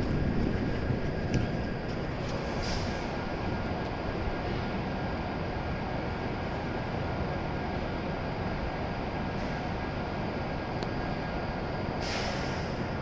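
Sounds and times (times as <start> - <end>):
train equipment humming and whirring: 0.0 - 13.0.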